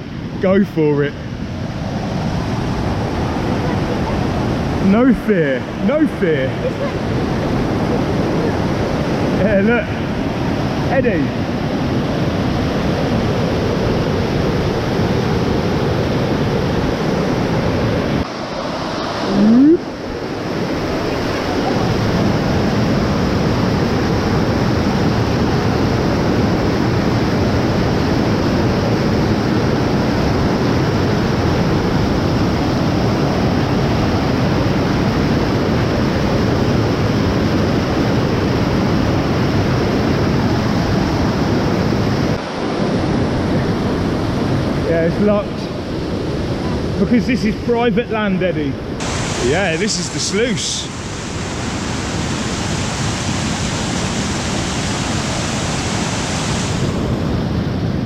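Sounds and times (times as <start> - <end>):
rushing floodwater: 0.0 - 58.0
wind buffeting microphone: 1.2 - 58.0.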